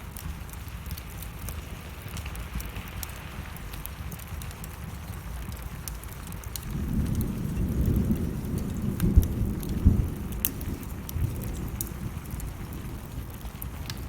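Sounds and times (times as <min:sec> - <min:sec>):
steady rain: 0:00.0 - 0:14.0
wood fire crackling: 0:00.0 - 0:14.0
thunder rumbling: 0:01.6 - 0:14.0.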